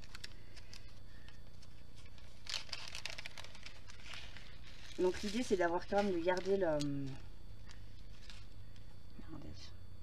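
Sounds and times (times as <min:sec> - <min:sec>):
plastic bag rustling: 0:00.0 - 0:08.8
steady low hum: 0:00.0 - 0:10.0.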